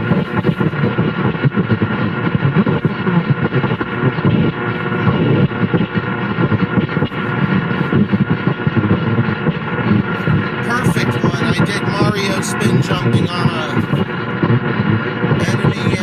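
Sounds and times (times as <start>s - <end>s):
radio static crackling: 0.0s - 16.0s.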